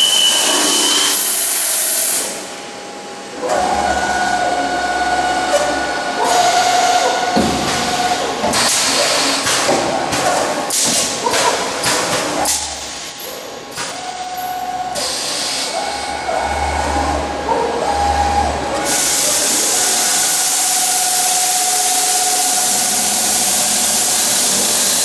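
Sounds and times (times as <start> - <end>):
machine steady whine: 0.0 - 25.0.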